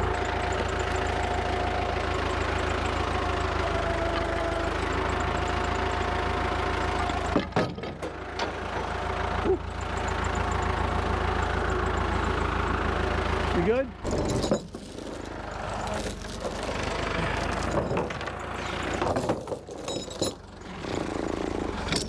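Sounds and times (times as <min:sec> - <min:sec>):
forklift engine idling: 0:00.0 - 0:19.8, 0:20.4 - 0:22.0.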